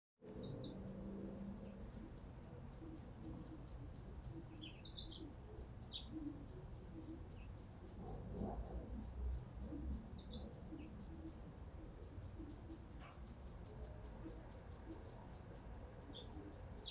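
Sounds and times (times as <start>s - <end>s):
birds chirping: 0.2s - 16.9s.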